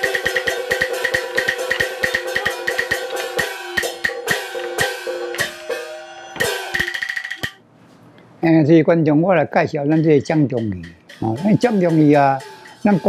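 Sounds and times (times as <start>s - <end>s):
drum and woodblock strikes: 0.0s - 7.6s, 9.7s - 13.0s
ringing gongs and cymbals: 0.0s - 7.6s, 9.7s - 13.0s.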